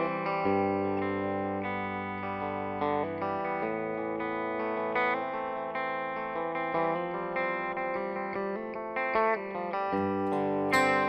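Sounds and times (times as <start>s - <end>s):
guitar instrumental music: 0.0s - 11.0s.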